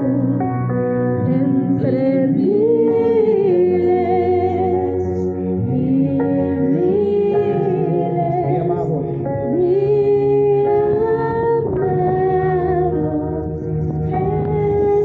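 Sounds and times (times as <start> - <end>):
sustained chords: 0.0 - 15.0
woman singing: 1.2 - 8.7, 9.4 - 15.0.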